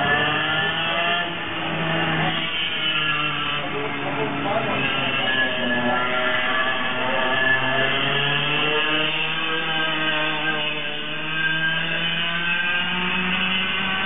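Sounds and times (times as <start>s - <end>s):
go-kart engine revving: 0.0s - 14.0s.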